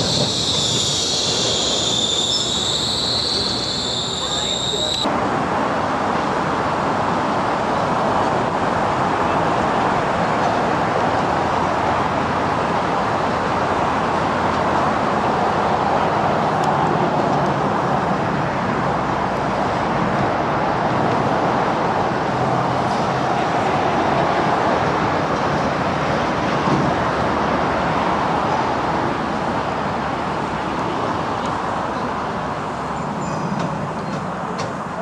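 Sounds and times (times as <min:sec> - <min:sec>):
rushing vehicle noise: 0:00.0 - 0:35.0.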